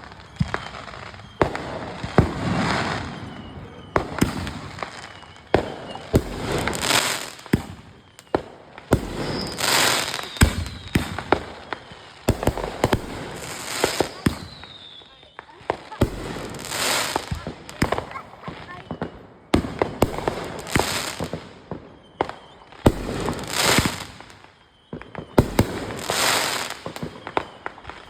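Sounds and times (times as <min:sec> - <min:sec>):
fireworks bangs: 0:00.0 - 0:28.0
fireworks hissing crackle: 0:00.0 - 0:28.0.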